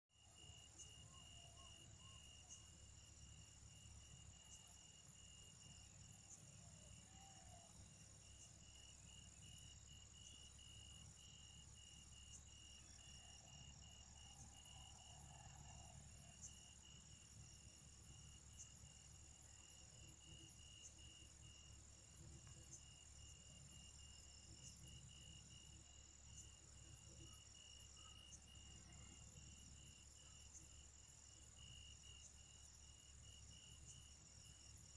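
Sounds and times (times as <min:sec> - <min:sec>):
high insect hum: 0:00.2 - 0:34.9.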